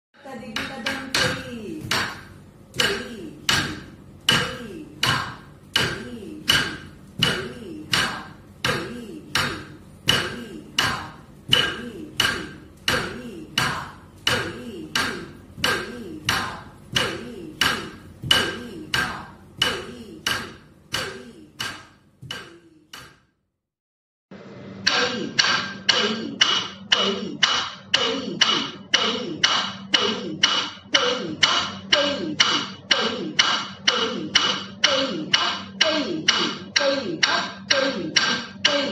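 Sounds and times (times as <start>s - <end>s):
sharp rhythmic strikes with ringing: 0.2s - 23.4s, 24.8s - 38.9s.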